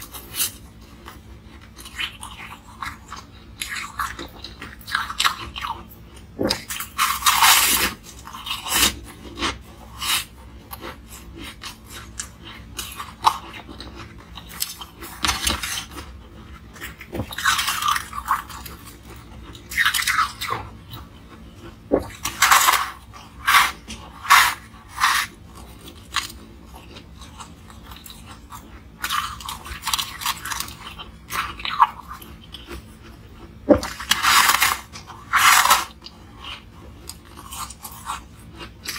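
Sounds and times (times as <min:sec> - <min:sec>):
quiet chewing: 0:00.0 - 0:38.9.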